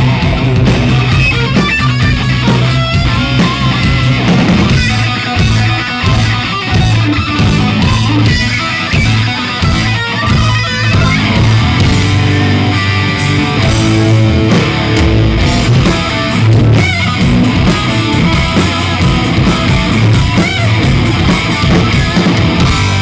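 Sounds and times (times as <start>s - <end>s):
bass guitar: 0.0s - 23.0s
distorted electric guitar: 0.0s - 23.0s
drums: 0.0s - 23.0s.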